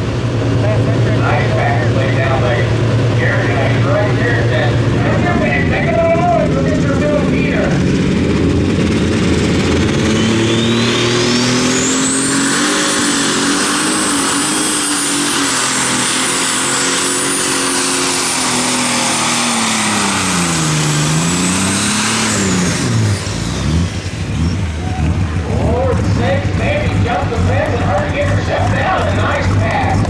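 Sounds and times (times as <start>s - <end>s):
tractor engine at full throttle: 0.0s - 30.0s.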